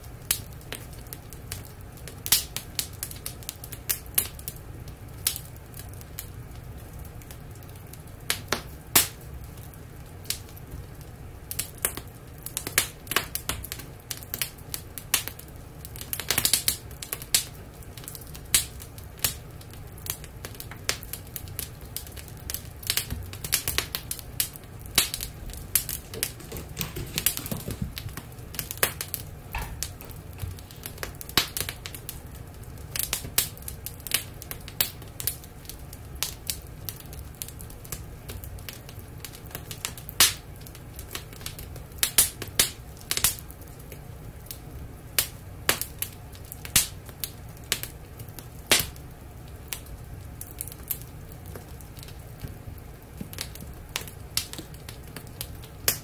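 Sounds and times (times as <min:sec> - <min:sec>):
low steady hum: 0:00.0 - 0:56.0
wood fire crackling: 0:00.0 - 0:56.0.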